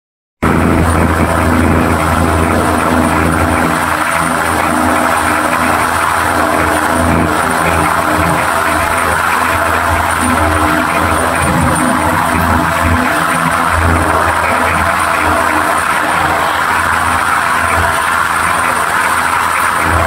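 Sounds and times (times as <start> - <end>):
train engine drone: 0.4 - 20.0.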